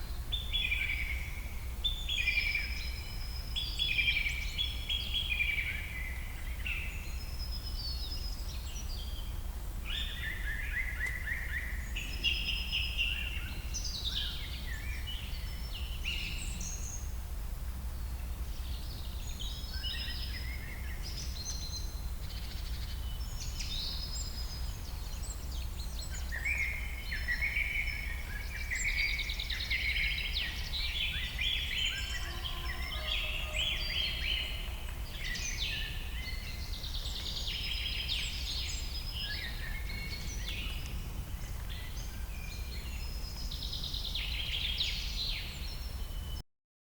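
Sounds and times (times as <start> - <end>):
songbirds singing: 0.0 - 46.4.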